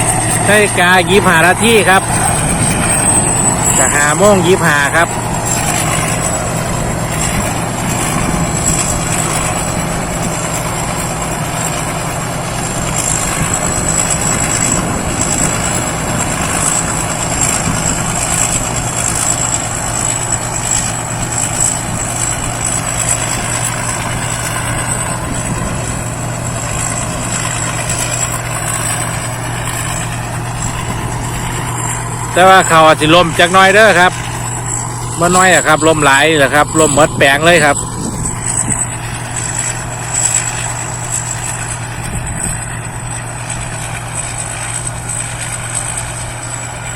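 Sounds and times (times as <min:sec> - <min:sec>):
combine harvester engine hum: 0:00.0 - 0:46.9
high whine: 0:00.0 - 0:46.9.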